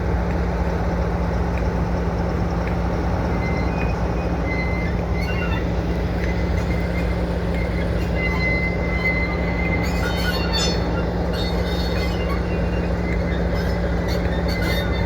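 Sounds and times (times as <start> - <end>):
diesel locomotive engine running: 0.0 - 15.0
wheels squealing on rails: 0.0 - 15.0.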